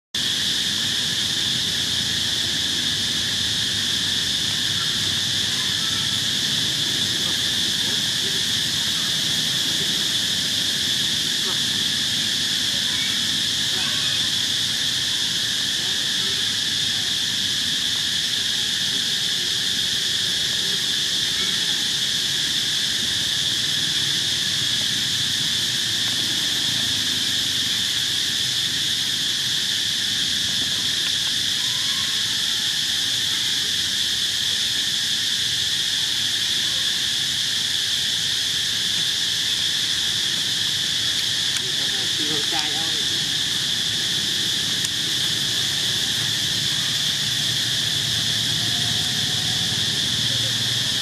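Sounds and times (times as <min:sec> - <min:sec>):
high-pitched insect chorus: 0:00.2 - 0:51.0.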